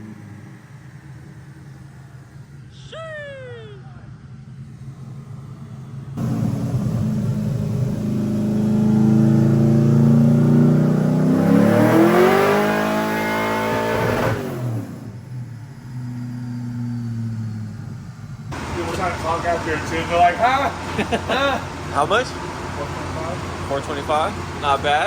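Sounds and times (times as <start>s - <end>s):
engine revving on a dyno: 0.0s - 2.5s, 6.1s - 25.0s.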